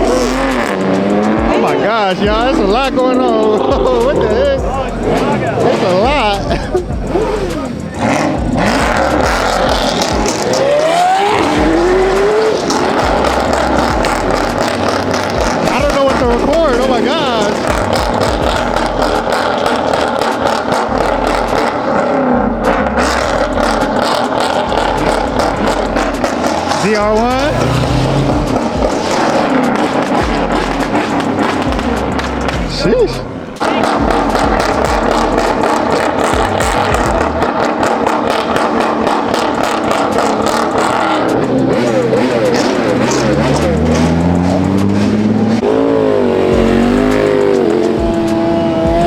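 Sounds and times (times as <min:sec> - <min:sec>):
car engine revving: 0:00.0 - 0:49.0
street noise: 0:00.0 - 0:49.0.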